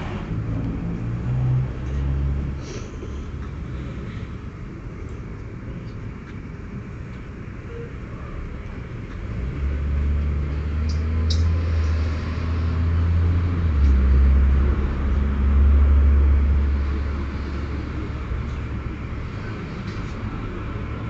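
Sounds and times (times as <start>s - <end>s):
train running low hum: 0.0s - 21.0s.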